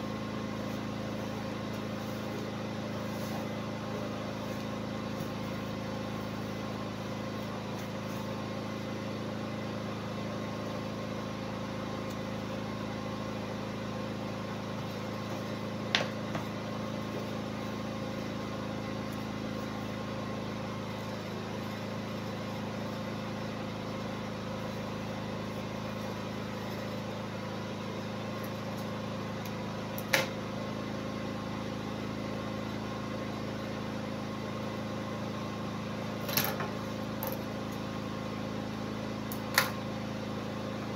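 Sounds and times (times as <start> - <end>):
steady machine hum: 0.0 - 40.9.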